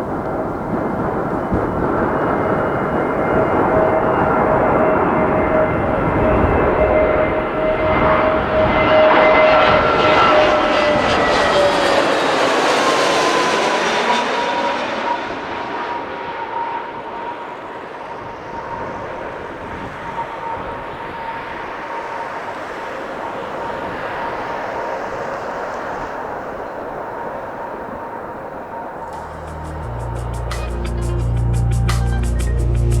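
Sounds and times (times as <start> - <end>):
aircraft engines passing by: 0.0 - 33.0.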